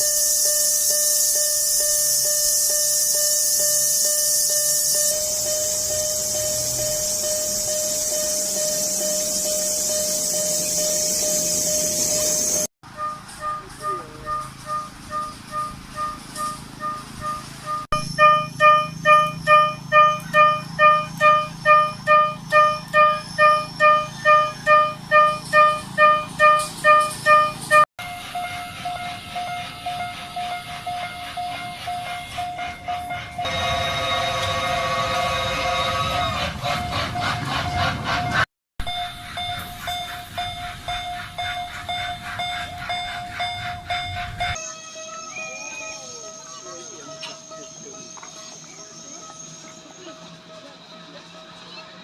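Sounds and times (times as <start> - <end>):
crossing signal bell ringing: 0.0 - 52.0.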